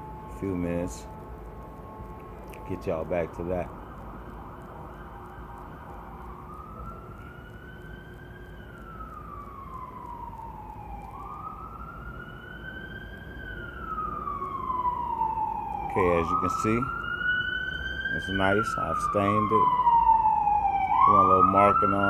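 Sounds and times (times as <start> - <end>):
emergency siren wailing: 0.0 - 22.0
low background noise: 0.0 - 22.0.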